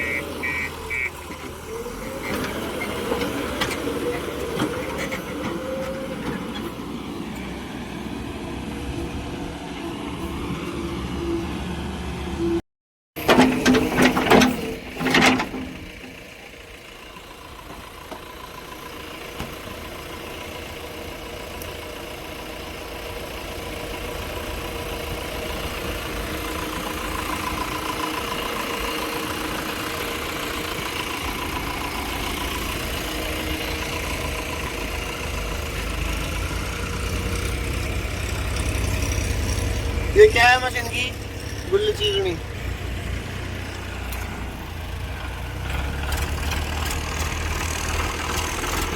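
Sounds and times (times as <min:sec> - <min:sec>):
vehicle engine running: 0:00.0 - 0:11.4, 0:14.7 - 0:48.9.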